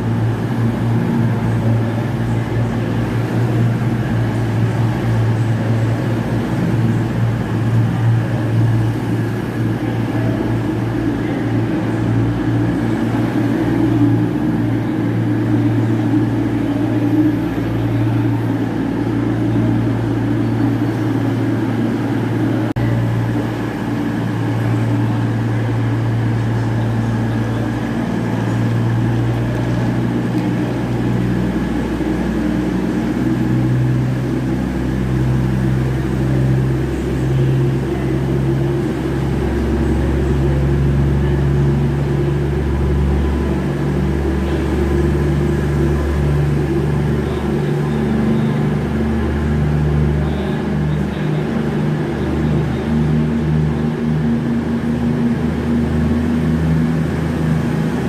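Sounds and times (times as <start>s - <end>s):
train engine humming: 0.0s - 58.0s.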